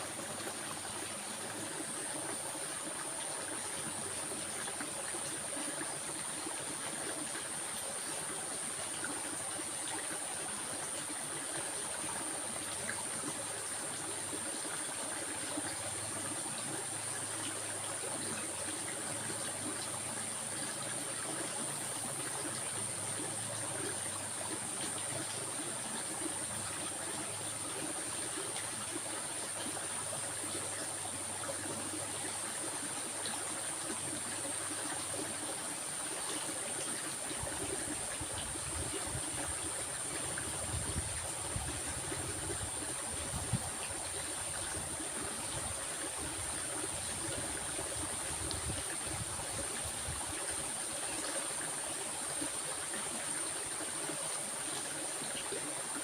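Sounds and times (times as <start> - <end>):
stream flowing and trickling: 0.0 - 56.0.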